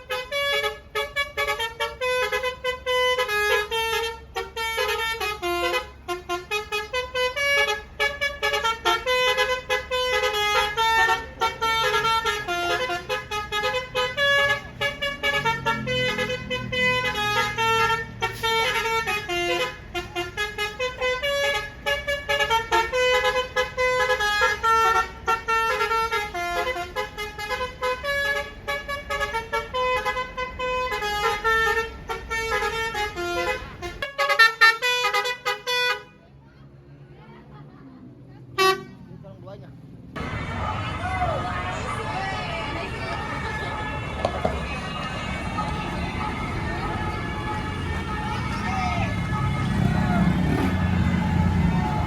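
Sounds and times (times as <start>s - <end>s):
musical bus horn tune: 0.0s - 36.2s, 38.6s - 39.0s, 40.2s - 52.0s.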